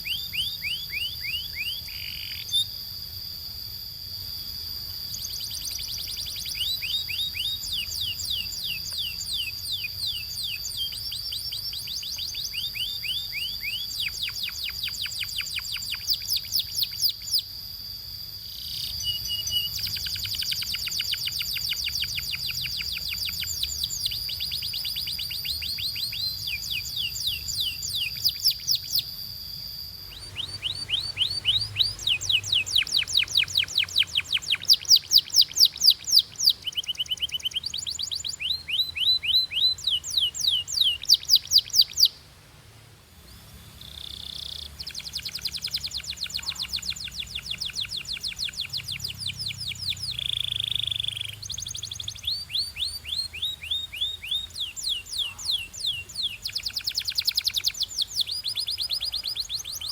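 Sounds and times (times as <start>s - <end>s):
canary singing trills: 0.0s - 42.3s, 43.2s - 59.9s.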